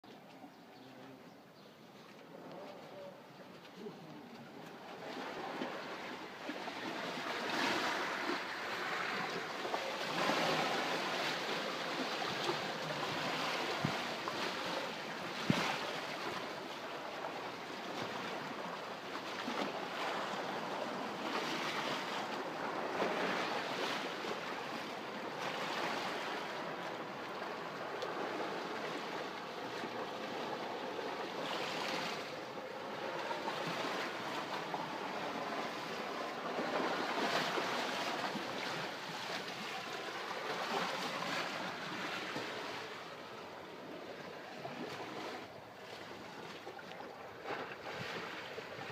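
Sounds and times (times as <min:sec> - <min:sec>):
sea waves washing ashore: 0:01.9 - 0:48.9.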